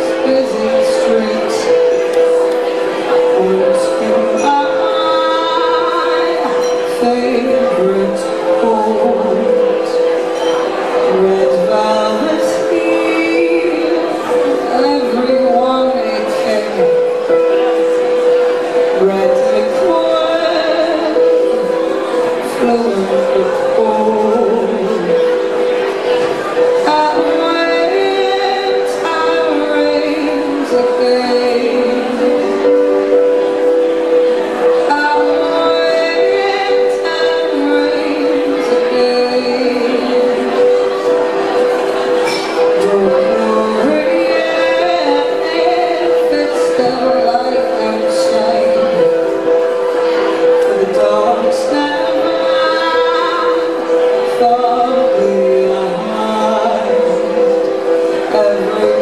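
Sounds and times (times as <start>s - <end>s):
woman singing: 0.0s - 25.9s, 26.6s - 59.0s
piano chords: 0.0s - 59.0s.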